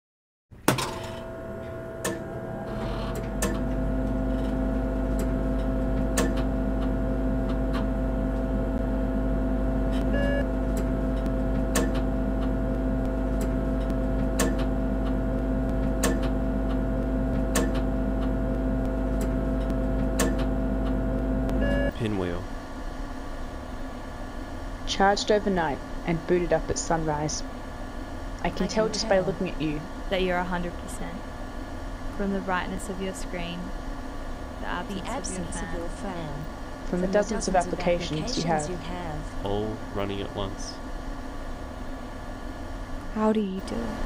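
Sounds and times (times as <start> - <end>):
machine hum with drone: 0.6 - 44.0.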